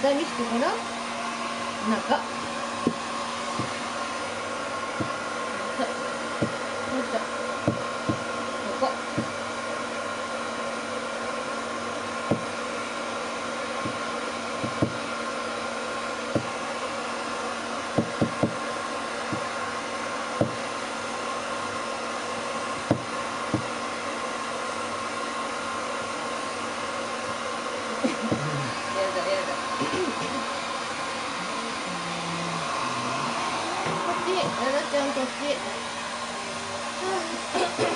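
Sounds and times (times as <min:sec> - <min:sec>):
hair dryer blowing: 0:00.0 - 0:37.9.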